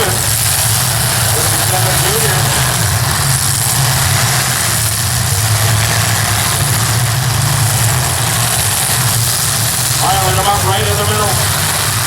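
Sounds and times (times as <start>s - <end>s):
car engines droning: 0.0s - 12.0s.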